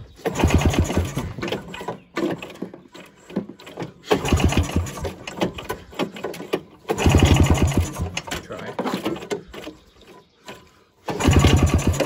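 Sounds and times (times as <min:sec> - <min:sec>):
snowmobile engine cranking: 0:00.2 - 0:12.0.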